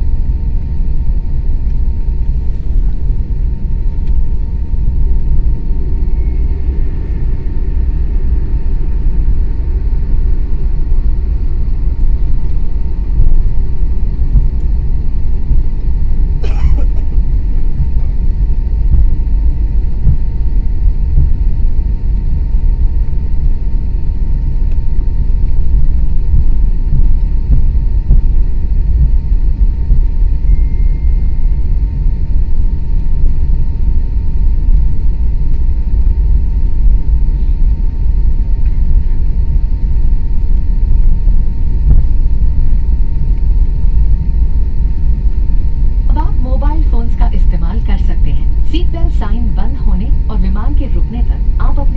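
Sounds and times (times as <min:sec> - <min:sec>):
airplane cabin rumble: 0:00.0 - 0:51.9
faint steady hum: 0:00.0 - 0:51.9.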